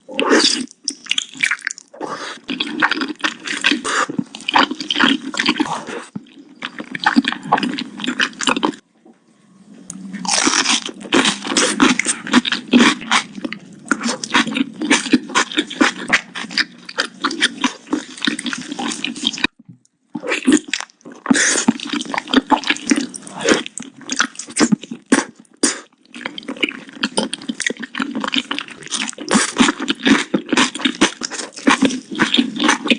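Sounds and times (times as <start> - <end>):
person chewing with wet clicks: 0.4 - 8.8, 10.3 - 19.6, 20.2 - 32.9.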